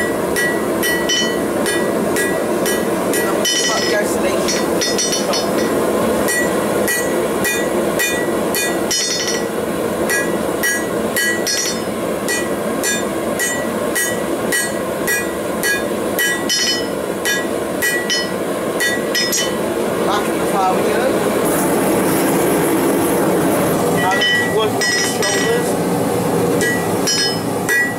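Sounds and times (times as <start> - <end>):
hammer striking steel on anvil: 0.0 - 19.6, 24.0 - 25.7, 26.6 - 27.9
forge burner rushing: 0.0 - 27.9.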